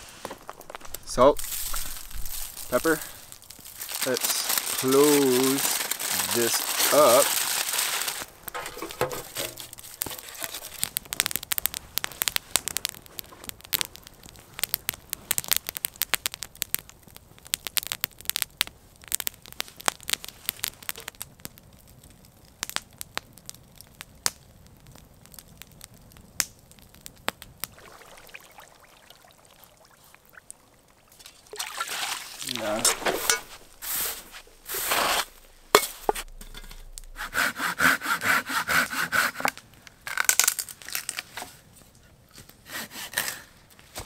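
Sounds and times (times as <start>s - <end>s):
low steady hiss: 0.0s - 42.7s
campfire crackling and popping: 0.0s - 44.0s.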